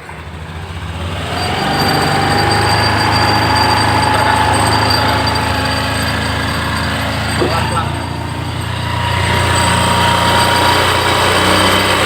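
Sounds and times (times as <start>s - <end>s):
scooter engine revving: 0.0s - 12.0s
jingling rattle: 1.2s - 12.0s.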